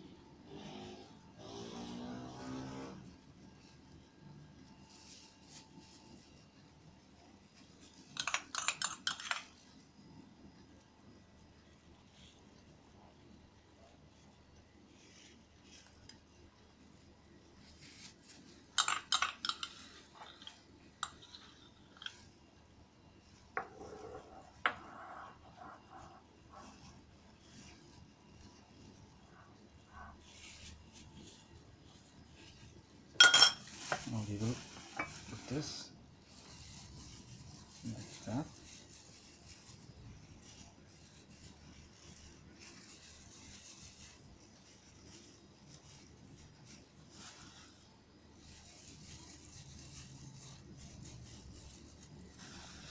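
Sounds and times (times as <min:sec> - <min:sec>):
plastic glove rustling: 0:00.3 - 0:52.9.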